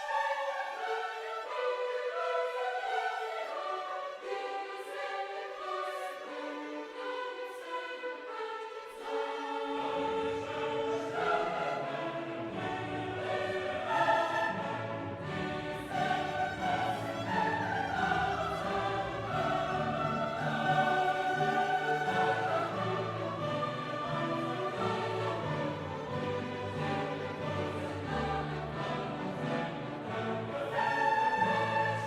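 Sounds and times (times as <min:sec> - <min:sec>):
orchestral and choral music: 0:00.0 - 0:32.0.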